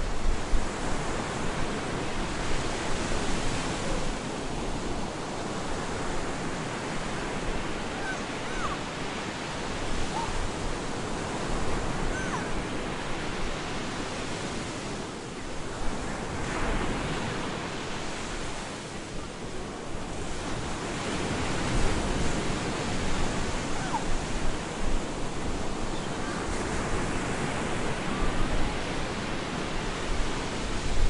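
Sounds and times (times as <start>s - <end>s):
waves breaking on a beach: 0.0s - 31.0s.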